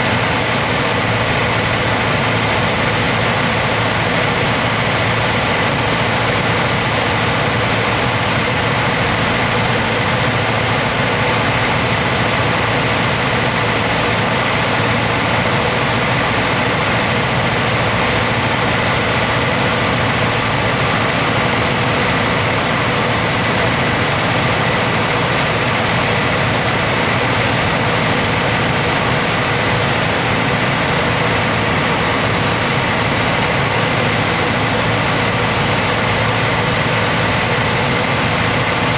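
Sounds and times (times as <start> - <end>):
light aircraft engine drone: 0.0 - 38.9.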